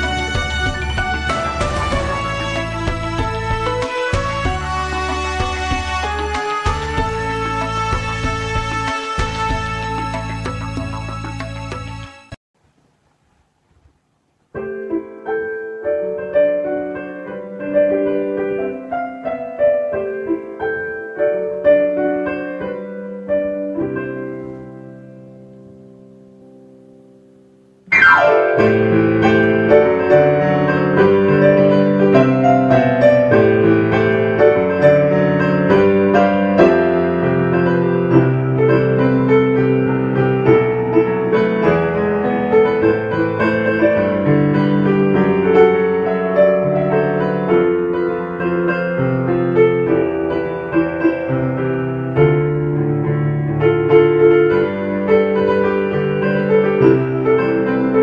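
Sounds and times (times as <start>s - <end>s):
lively piano piece: 0.0s - 9.3s, 14.5s - 58.0s.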